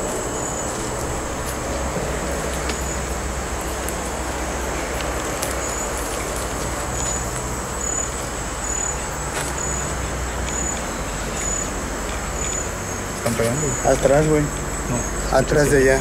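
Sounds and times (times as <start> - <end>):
insect chirps: 0.0 - 16.0
insects droning: 0.0 - 16.0
low rumble like distant traffic: 0.0 - 16.0.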